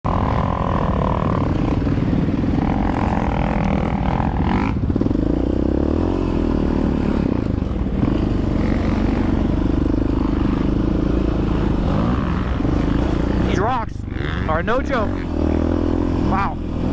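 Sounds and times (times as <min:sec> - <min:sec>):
higher engine tone: 0:00.1 - 0:16.9
quad bike engine revving: 0:00.1 - 0:16.9.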